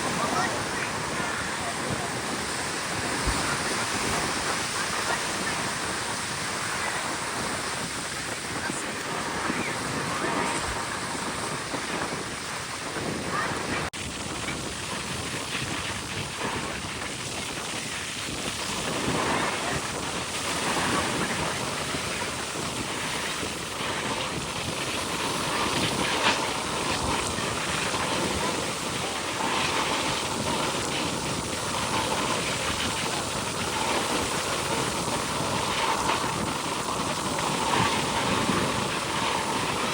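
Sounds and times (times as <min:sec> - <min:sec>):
faint voices: 0:00.0 - 0:13.9, 0:14.5 - 0:39.9
surf: 0:00.0 - 0:39.9
wind buffeting microphone: 0:00.0 - 0:39.9.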